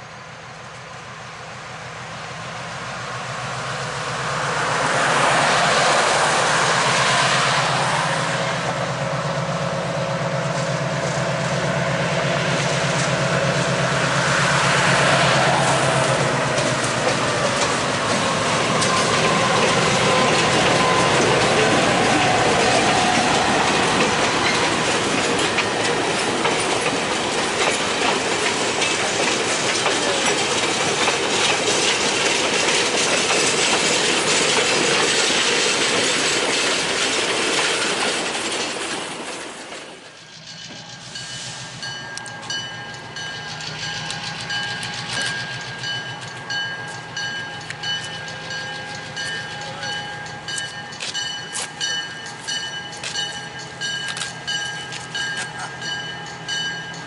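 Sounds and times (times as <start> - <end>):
train running on rails: 0.0 - 57.0.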